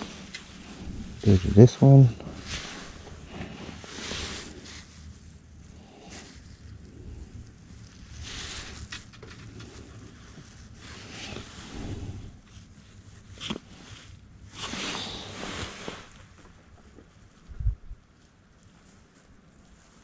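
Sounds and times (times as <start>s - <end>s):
jacket fabric rustling: 0.0s - 20.0s.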